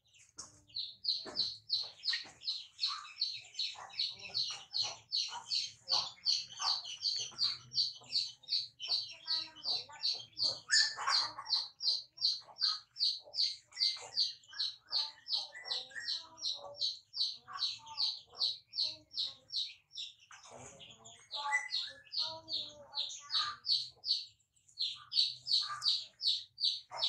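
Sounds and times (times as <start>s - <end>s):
bird chirping rhythmically: 0.0s - 27.0s.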